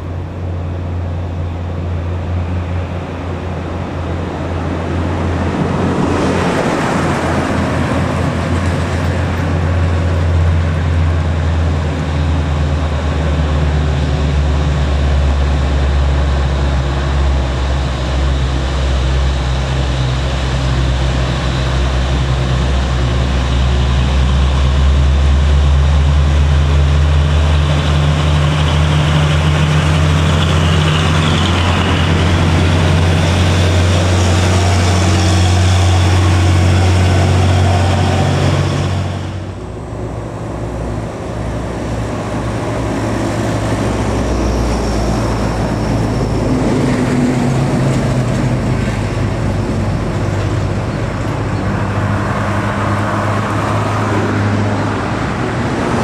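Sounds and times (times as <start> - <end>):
quieter engine: 0.0 - 56.0
road noise: 0.0 - 56.0
truck engines labouring uphill: 0.0 - 56.0.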